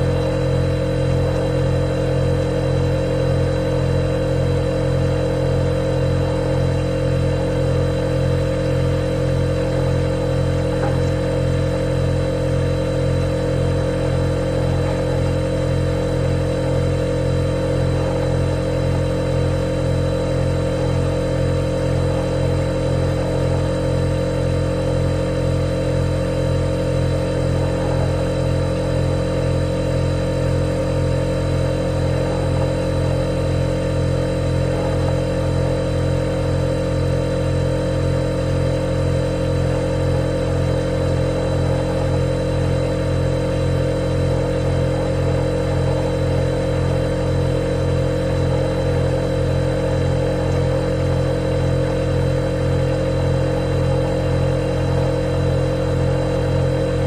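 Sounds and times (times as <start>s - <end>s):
high steady whine: 0.0s - 57.0s
refrigerator humming: 0.0s - 57.0s.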